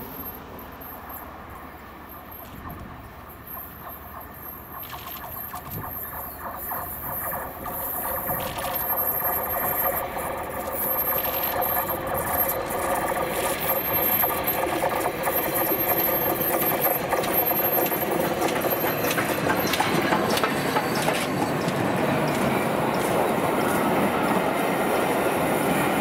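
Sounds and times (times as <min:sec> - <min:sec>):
steam locomotive passing: 0:00.0 - 0:26.0
train wheels clicking over rails: 0:00.0 - 0:26.0.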